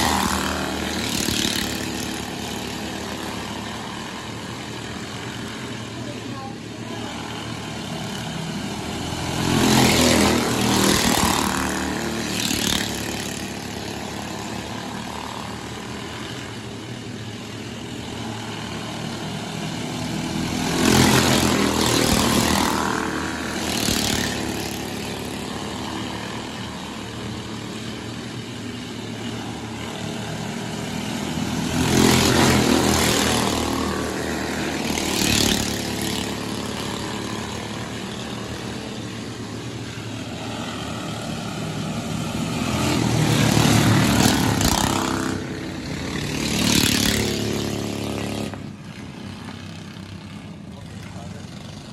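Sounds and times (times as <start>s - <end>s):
distant race car engines: 0.0s - 51.9s
race cars passing at speed: 6.9s - 51.9s.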